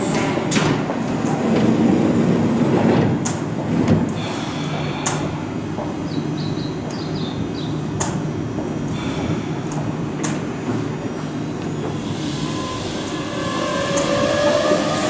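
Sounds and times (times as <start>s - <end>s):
train doors sliding closed: 0.0s - 6.0s, 7.8s - 15.0s
standing train hum: 0.0s - 15.0s.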